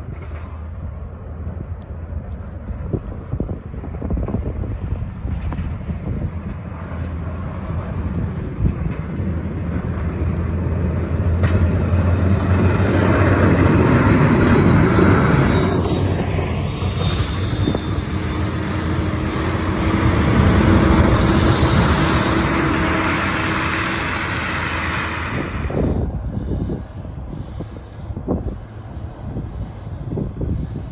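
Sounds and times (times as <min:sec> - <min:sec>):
diesel engines under load: 0:00.0 - 0:30.9
plow blades pushing snow: 0:04.9 - 0:30.1.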